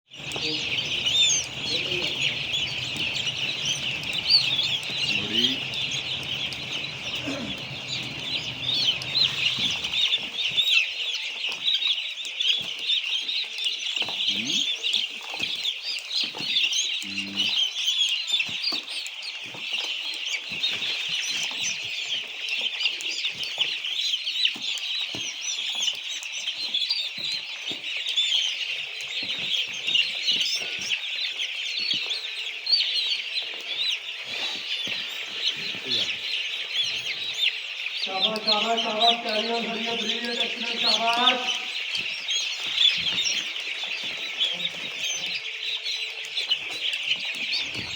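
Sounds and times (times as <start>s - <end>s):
chickens peeping and chirping: 0.1s - 47.9s.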